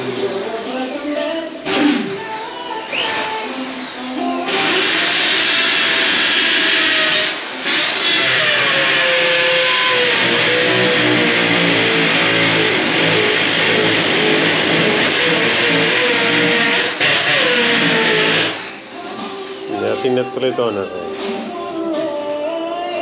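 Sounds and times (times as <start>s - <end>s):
electric drill boring into concrete: 0.0s - 18.8s.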